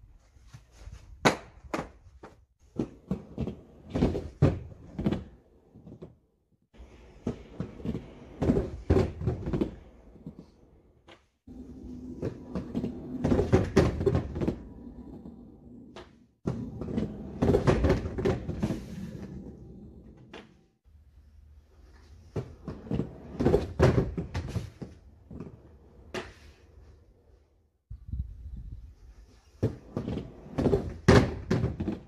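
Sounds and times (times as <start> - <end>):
skate wheels rolling: 0.1 - 32.0.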